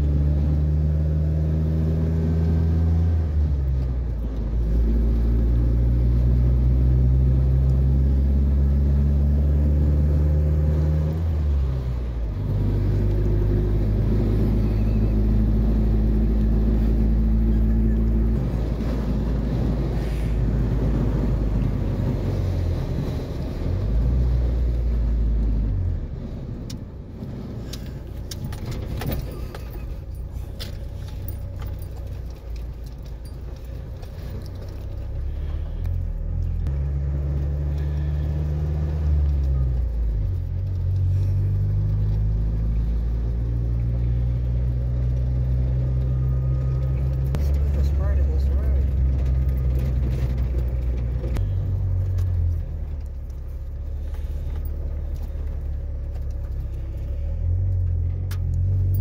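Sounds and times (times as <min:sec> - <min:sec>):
deep exhaust drone: 0:00.0 - 0:59.0.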